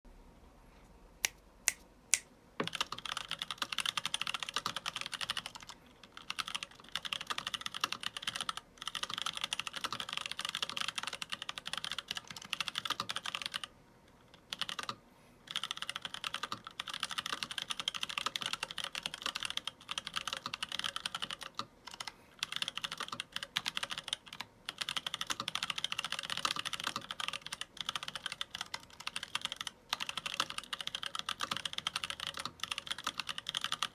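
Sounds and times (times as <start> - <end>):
mechanical keyboard typing: 2.6 - 13.7, 14.3 - 33.9.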